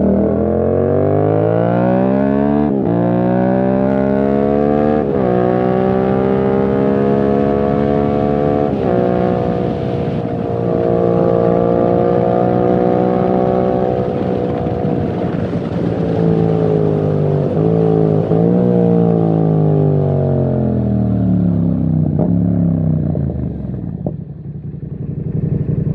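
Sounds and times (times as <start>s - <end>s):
motorcycle engine under load: 2.6s - 25.9s.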